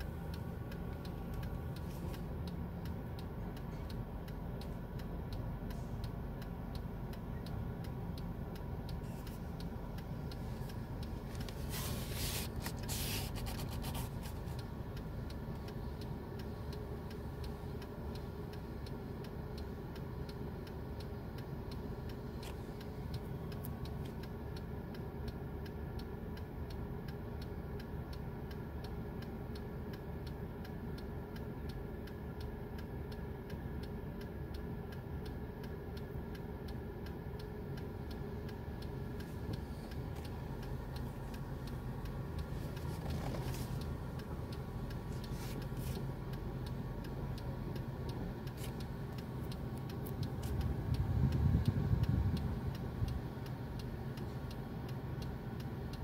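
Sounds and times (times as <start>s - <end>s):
steady ticking: 0.0s - 11.8s, 12.4s - 56.0s
car engine idling: 0.0s - 56.0s.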